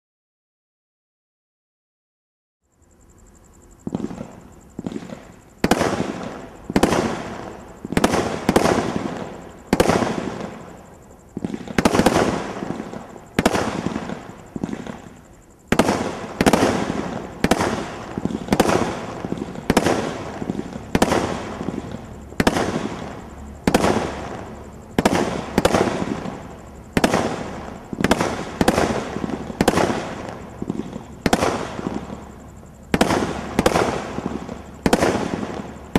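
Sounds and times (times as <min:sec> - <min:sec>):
firework shots firing: 0:03.8 - 0:35.9.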